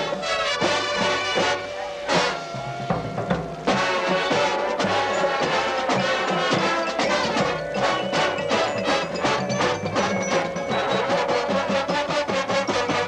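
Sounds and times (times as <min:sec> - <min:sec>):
bugles holding chords: 0:00.0 - 0:13.0
marching drums: 0:00.0 - 0:13.0.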